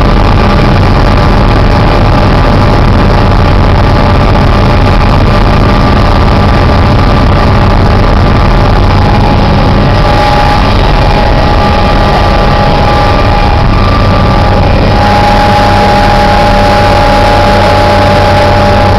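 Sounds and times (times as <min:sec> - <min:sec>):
helicopter engine and rotor: 0:00.0 - 0:18.9.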